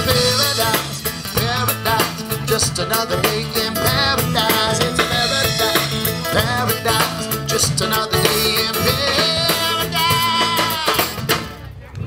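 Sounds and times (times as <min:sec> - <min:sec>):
country band playing: 0:00.0 - 0:11.8.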